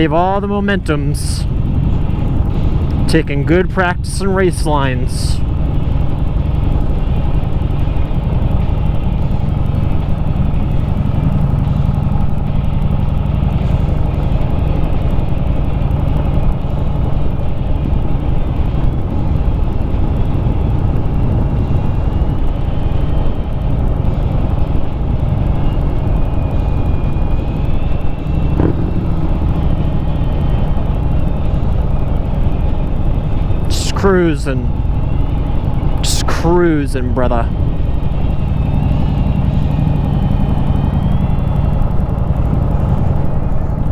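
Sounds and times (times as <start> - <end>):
wind and road noise rumble: 0.0 - 43.9.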